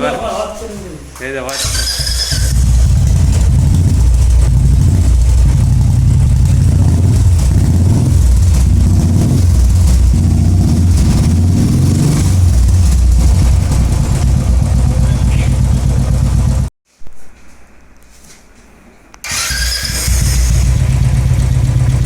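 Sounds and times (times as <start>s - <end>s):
motorcycle engine running loudly: 1.6s - 16.7s, 19.3s - 22.0s.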